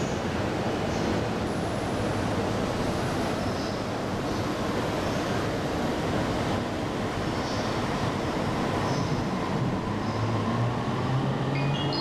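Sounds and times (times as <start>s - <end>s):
electric train pulling in: 0.0s - 12.0s
wheels rumbling on rails: 0.0s - 12.0s.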